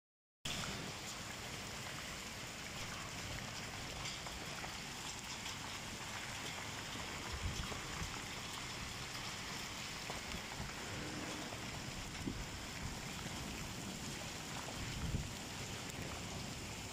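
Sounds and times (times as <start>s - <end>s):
heavy rain on tiled roof: 0.5s - 16.9s.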